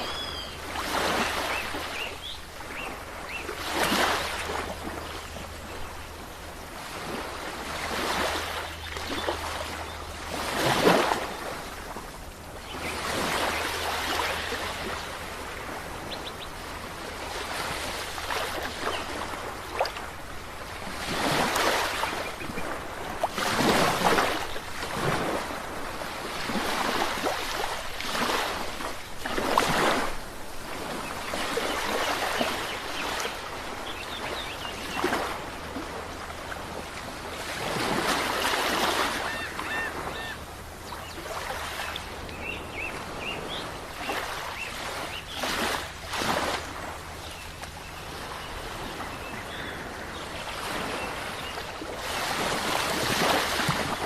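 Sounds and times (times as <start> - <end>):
ocean waves washing ashore: 0.0 - 54.0.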